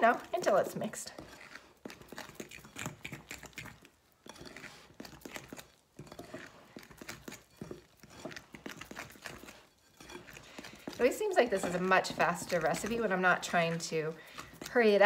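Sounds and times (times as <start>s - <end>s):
utensil scraping glass bowl: 0.0s - 15.0s.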